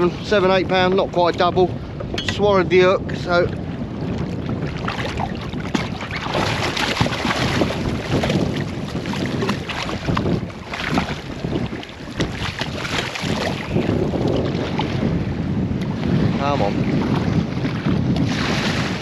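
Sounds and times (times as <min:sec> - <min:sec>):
wind buffeting microphone: 0:00.0 - 0:19.0
microphone handling knocks and rustles: 0:03.5 - 0:19.0.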